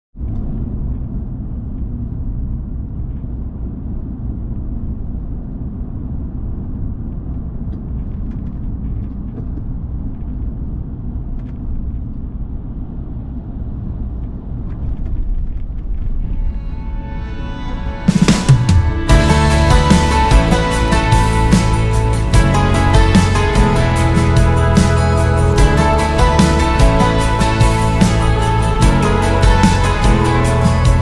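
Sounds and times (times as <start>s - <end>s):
car engine and tyre rumble: 0.1s - 31.0s.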